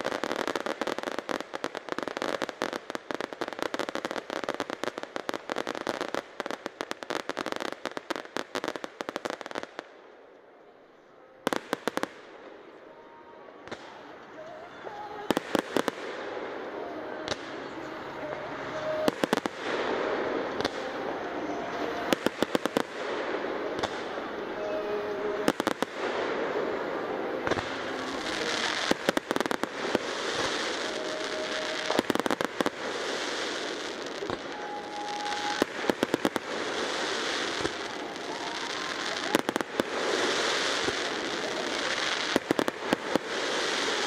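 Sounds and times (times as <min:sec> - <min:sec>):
fireworks bangs and crackles: 0:00.0 - 0:10.2, 0:11.4 - 0:44.0.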